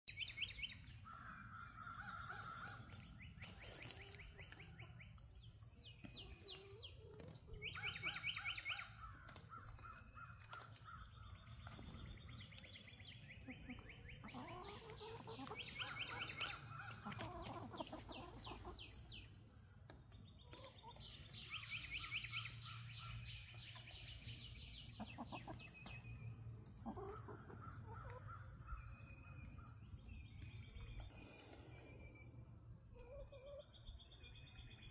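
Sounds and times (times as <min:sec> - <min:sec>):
birds singing and chirping: 0:00.1 - 0:34.9.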